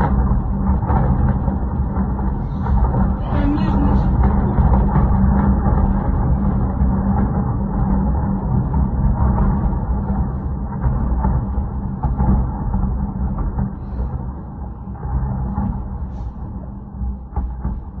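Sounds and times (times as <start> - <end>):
heavy engine rumbling: 0.0 - 18.0.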